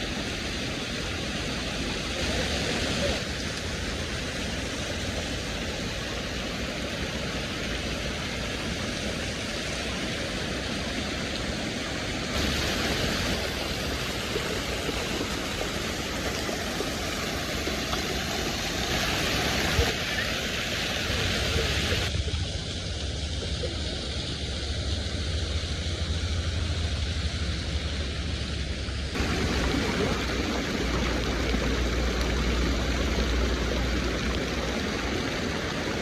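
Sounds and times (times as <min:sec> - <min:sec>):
fountain water splashing: 0:00.0 - 0:36.0.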